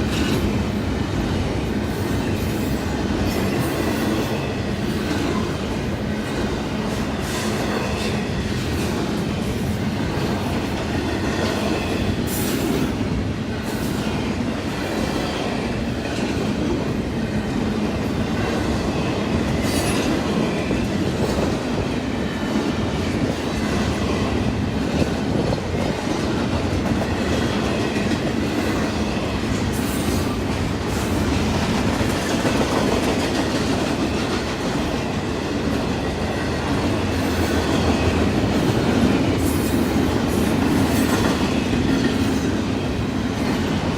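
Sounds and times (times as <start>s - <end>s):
train cars rumbling past: 0.0s - 43.9s
wheels clickety-clack on track: 0.0s - 43.9s.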